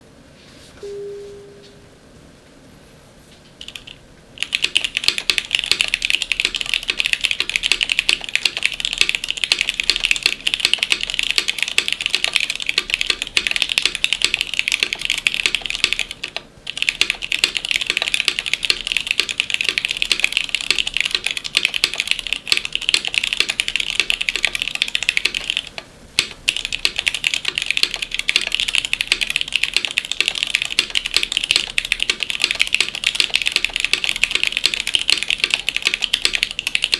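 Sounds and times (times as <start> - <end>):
mechanical keyboard typing: 3.6 - 36.9.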